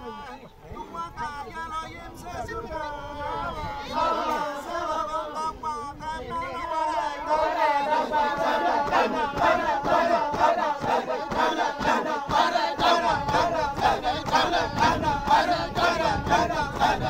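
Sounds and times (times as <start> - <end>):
group of people chanting: 2.8 - 17.0.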